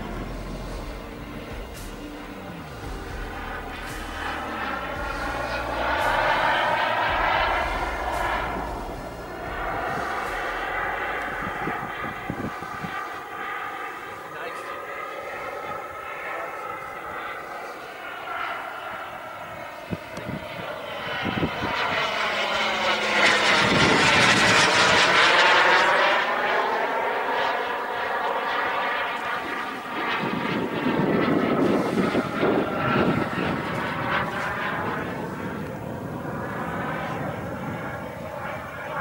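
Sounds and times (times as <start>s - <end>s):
model jet engine flying past: 0.0s - 39.0s.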